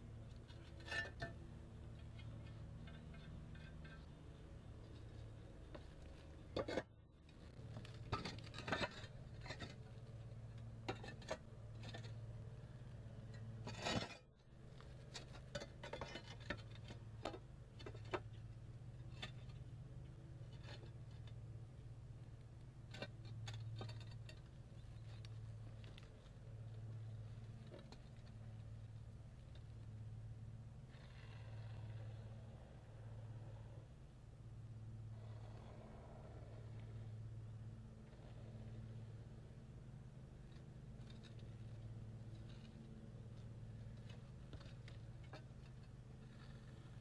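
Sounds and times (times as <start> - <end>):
faint low hum: 0.0 - 47.0.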